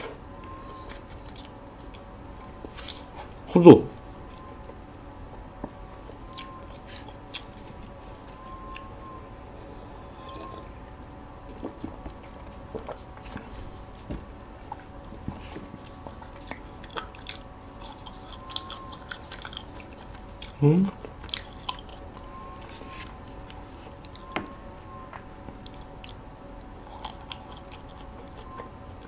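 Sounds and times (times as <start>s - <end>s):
faint steady hum: 0.0s - 29.0s
chewing with wet mouth clicks: 0.2s - 5.4s, 6.3s - 9.4s, 10.2s - 10.7s, 11.5s - 24.7s, 25.4s - 29.0s.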